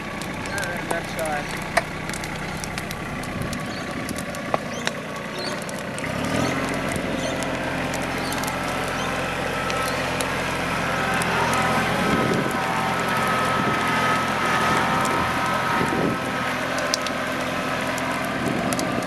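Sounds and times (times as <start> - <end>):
sharp cracks: 0.0 - 19.0
tractor diesel engine running: 0.0 - 19.0.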